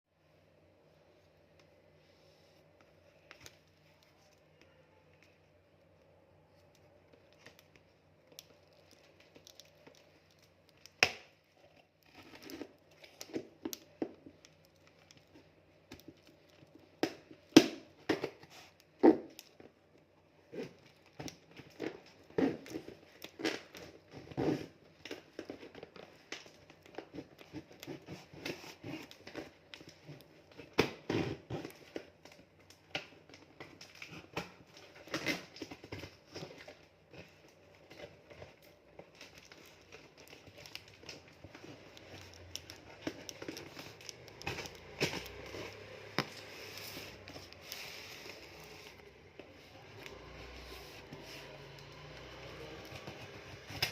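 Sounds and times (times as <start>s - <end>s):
packaging crinkling and tearing: 6.5s - 53.9s.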